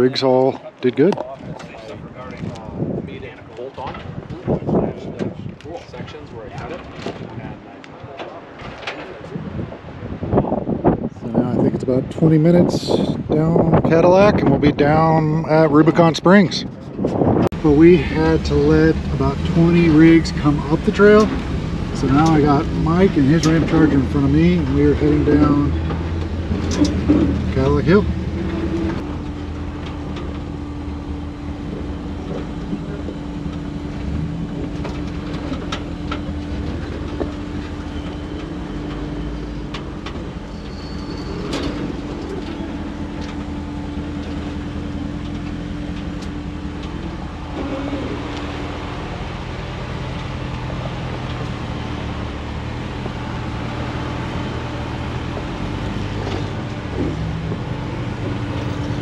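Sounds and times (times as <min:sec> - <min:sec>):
off-road vehicle engine running: 0:11.3 - 0:59.0.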